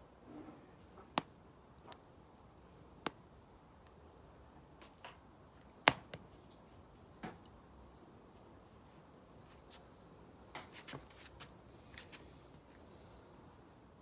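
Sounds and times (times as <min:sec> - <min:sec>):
burning wood crackling: 0:00.0 - 0:14.0.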